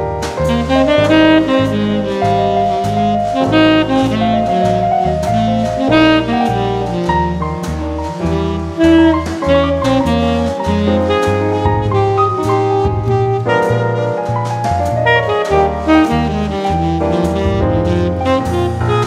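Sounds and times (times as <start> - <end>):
jazz music: 0.0 - 19.0.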